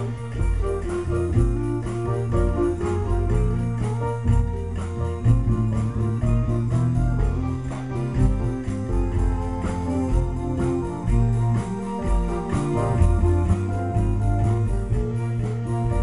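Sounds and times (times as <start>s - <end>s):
drums: 0.0s - 16.0s
electronic keyboard: 0.0s - 16.0s
low bass line: 0.0s - 16.0s.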